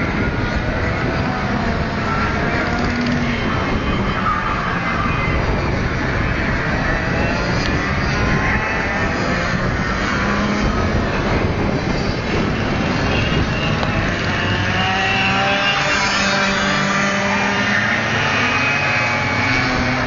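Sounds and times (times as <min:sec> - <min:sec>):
kart engines high-revving whine: 0:00.0 - 0:20.0.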